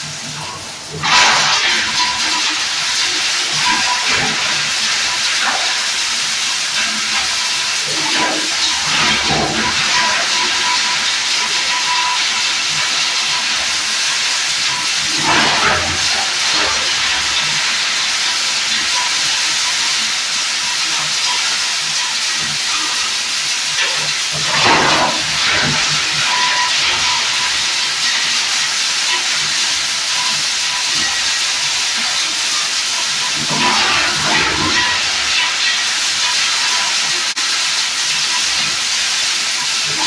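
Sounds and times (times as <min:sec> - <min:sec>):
plastic grinder hissing whirr: 0:00.0 - 0:40.0.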